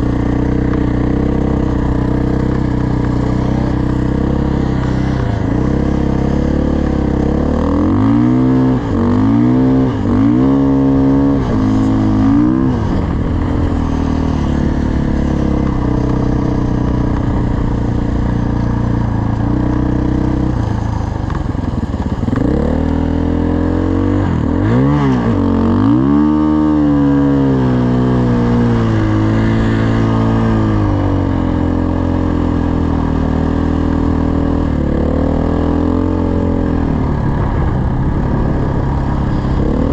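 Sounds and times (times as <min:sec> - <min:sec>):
dirt bike engine revving: 0:00.0 - 0:21.0, 0:21.7 - 0:37.0.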